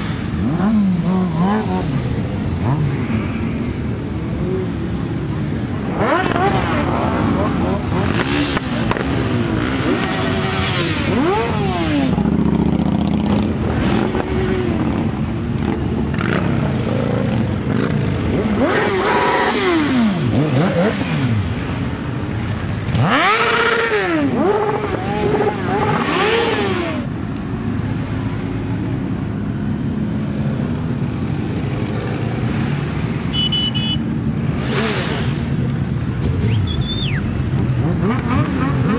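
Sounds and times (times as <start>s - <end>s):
motorcycles riding past: 0.0s - 38.9s.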